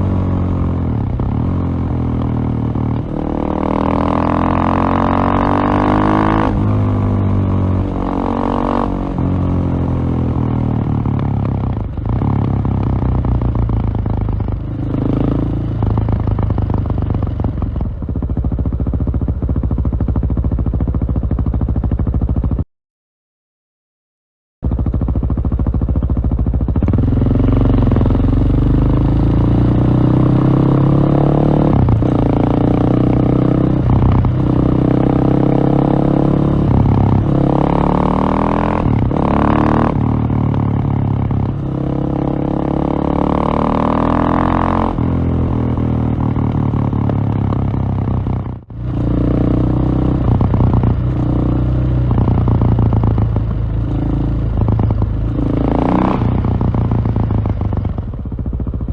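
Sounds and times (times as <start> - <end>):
motorcycle engine revving under load: 0.0 - 22.6, 24.6 - 58.9.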